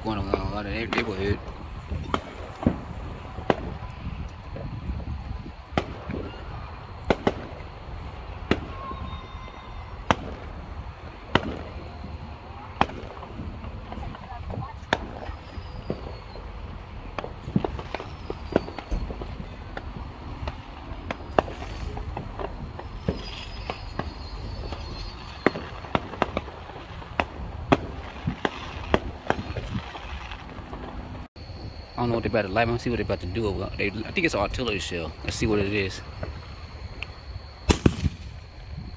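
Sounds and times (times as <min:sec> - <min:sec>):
fireworks bangs with echo: 0:00.0 - 0:31.1, 0:37.6 - 0:38.9.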